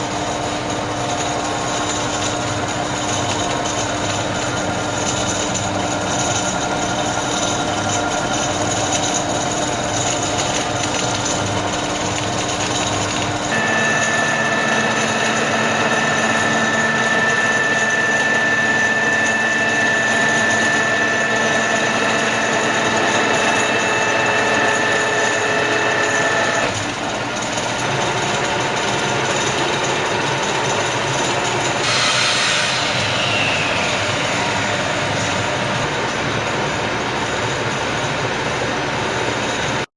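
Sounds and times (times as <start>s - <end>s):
drilling machine hum: 0.0s - 39.9s
high machine whine: 0.0s - 39.9s.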